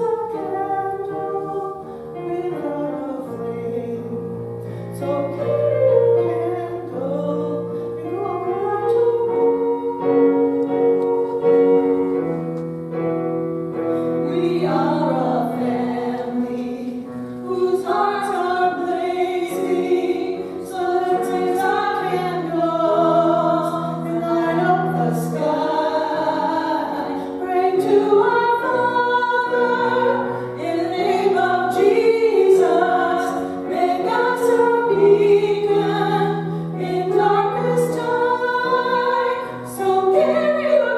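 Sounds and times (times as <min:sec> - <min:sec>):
women singing a worship song: 0:00.0 - 0:12.4, 0:14.2 - 0:40.9.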